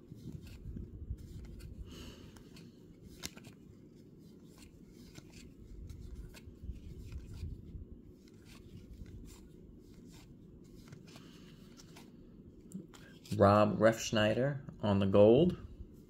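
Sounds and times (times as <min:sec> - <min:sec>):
steady low hum: 0:00.0 - 0:16.0
cards flipped by hand: 0:00.2 - 0:13.5.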